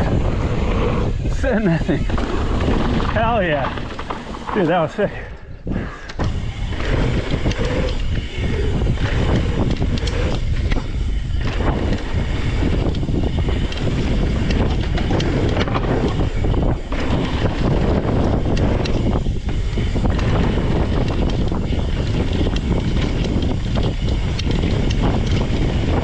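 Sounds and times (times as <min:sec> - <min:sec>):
wind rushing over microphone: 0:00.0 - 0:26.0
bike knocking over bumps: 0:02.0 - 0:04.8, 0:06.1 - 0:26.0.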